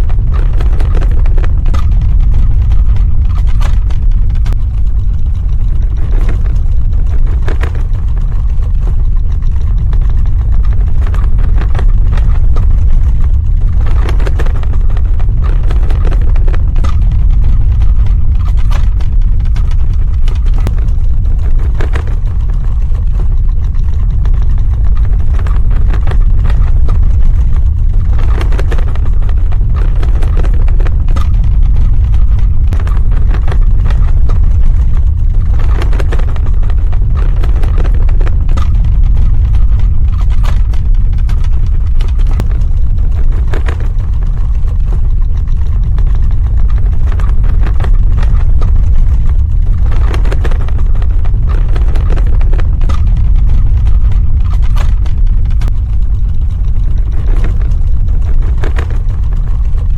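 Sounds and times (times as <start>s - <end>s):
cracks and rattles: 0.0s - 59.9s
deep earthquake rumble: 0.0s - 59.9s.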